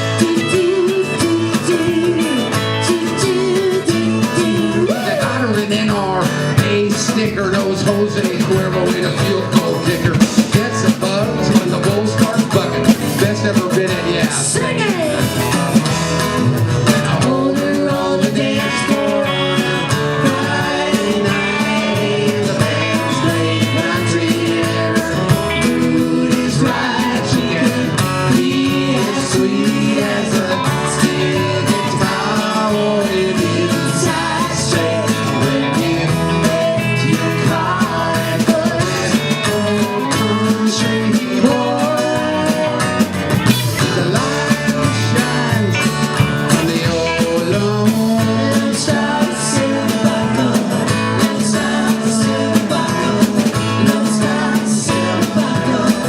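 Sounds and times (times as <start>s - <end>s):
country-rock band playing: 0.0s - 56.0s
electric guitar: 0.0s - 56.0s.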